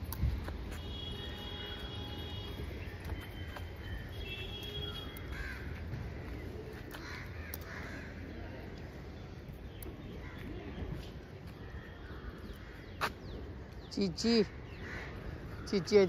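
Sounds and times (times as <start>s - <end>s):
birds calling: 0.9s - 16.0s.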